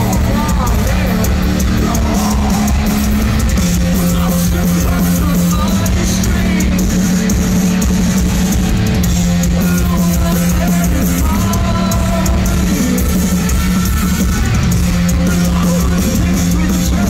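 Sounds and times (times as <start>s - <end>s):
distorted electric guitars and bass: 0.0s - 17.0s
drum kit: 0.0s - 17.0s.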